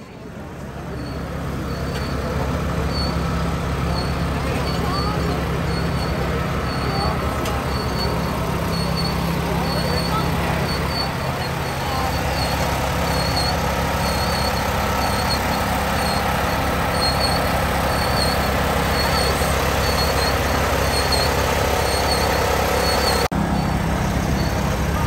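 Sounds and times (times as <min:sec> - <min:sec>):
tractor engine running: 0:00.0 - 0:25.0
short high squeak: 0:00.9 - 0:03.3, 0:03.9 - 0:24.6.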